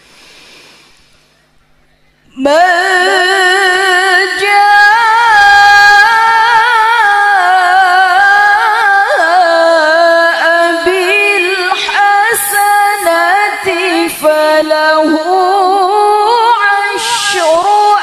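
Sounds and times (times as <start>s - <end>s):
woman reciting melodically: 2.3s - 18.0s.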